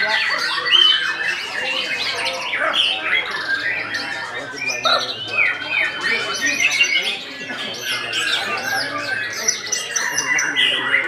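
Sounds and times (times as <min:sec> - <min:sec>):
other birds singing: 0:00.0 - 0:11.0.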